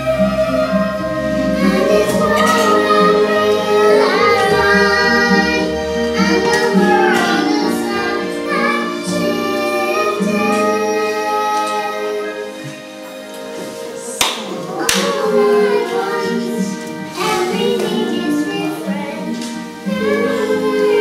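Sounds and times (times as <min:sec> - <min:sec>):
people singing into a microphone: 0:00.0 - 0:12.7, 0:13.6 - 0:21.0
low musical accompaniment: 0:00.0 - 0:21.0.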